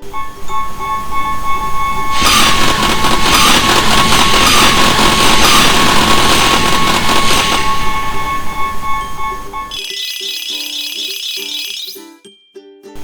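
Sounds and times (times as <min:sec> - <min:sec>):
train wheels clattering: 0:00.0 - 0:10.9
level-crossing bell dinging: 0:00.0 - 0:12.8.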